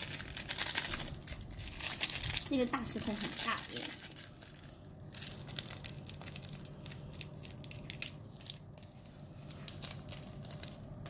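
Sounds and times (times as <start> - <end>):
plastic sachet tearing and crinkling: 0.0 - 11.0.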